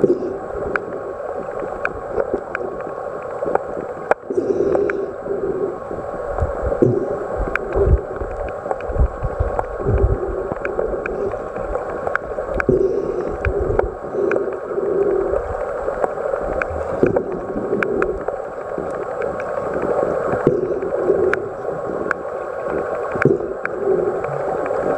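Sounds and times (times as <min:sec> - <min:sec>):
underwater rush of water: 0:00.0 - 0:24.9.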